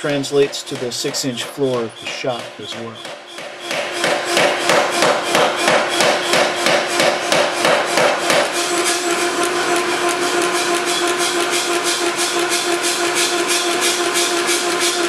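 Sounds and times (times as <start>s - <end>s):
forging hammer pounding steel: 0.0s - 15.0s.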